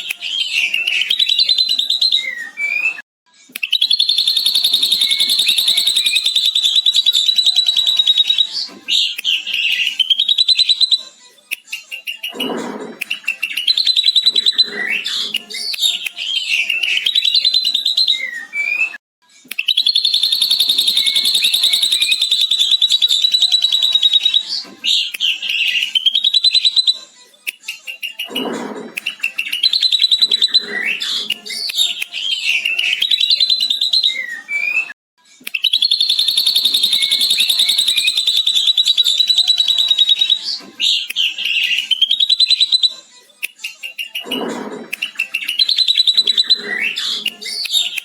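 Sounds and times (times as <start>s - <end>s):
bird chattering trill and whistles: 3.6s - 11.0s, 12.0s - 18.8s, 19.6s - 27.0s, 27.9s - 34.8s, 35.6s - 43.0s, 43.8s - 48.0s.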